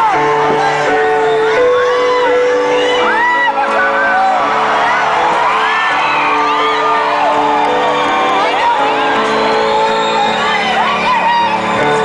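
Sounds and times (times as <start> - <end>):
crowd screaming and whooping: 0.0 - 12.0
held keyboard chords: 0.0 - 12.0.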